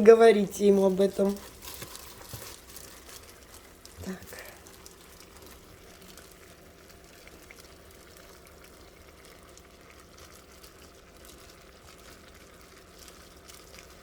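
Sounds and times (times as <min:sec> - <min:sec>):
low steady hum: 0:00.0 - 0:14.0
water boiling with pops: 0:00.0 - 0:14.0.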